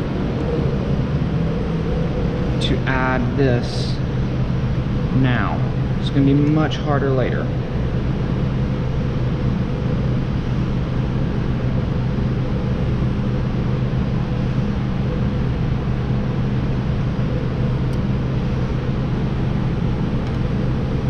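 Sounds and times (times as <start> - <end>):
mechanical drone with low hum: 0.0 - 21.0.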